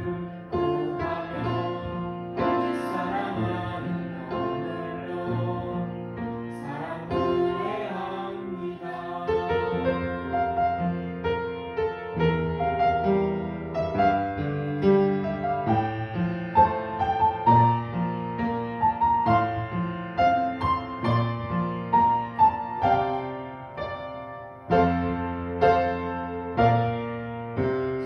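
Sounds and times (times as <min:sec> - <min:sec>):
gentle piano playing: 0:00.0 - 0:28.0.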